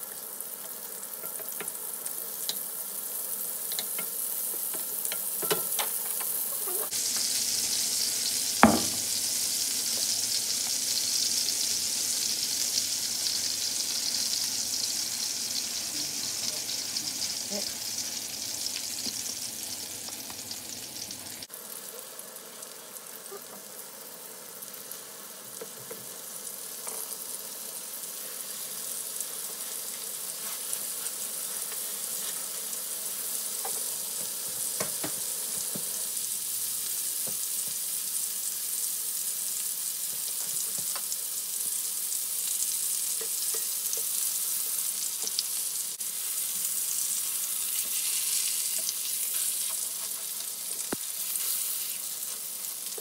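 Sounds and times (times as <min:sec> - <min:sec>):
patties sizzling in a pan: 0:00.0 - 0:53.0.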